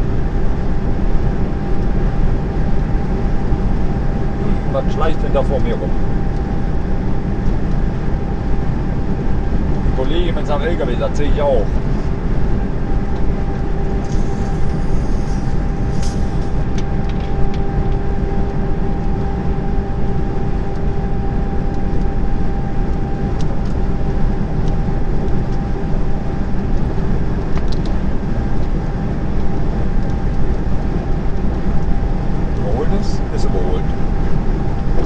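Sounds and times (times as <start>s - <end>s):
faint steady whine: 0.0s - 35.0s
truck diesel engine drone: 0.0s - 35.0s.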